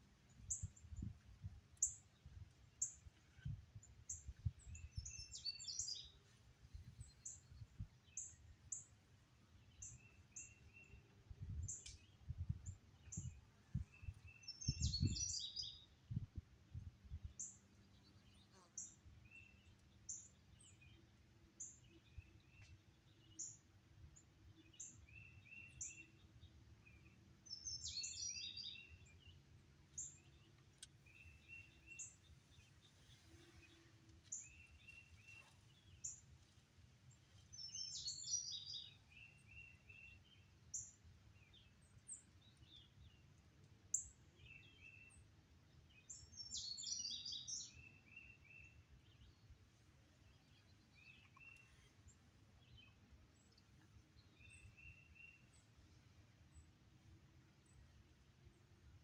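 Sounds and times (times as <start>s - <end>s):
songbirds calling: 0.0s - 59.0s.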